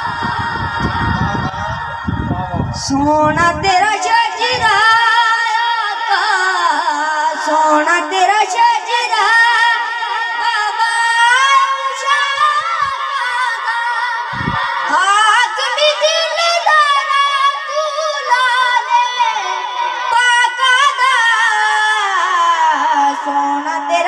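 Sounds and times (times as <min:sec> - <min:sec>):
boy singing into a microphone: 0:00.0 - 0:24.0.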